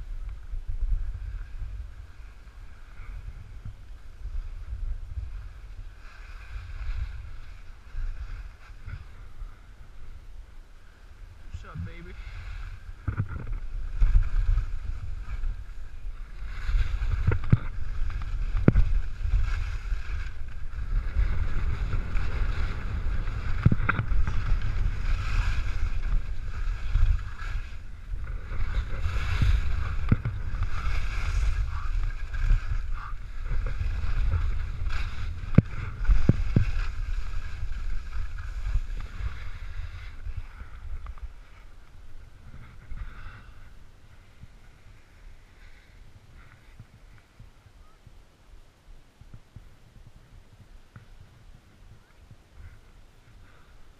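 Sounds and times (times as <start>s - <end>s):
skis scraping over snow: 0.0s - 47.6s
wind buffeting microphone: 0.0s - 48.2s.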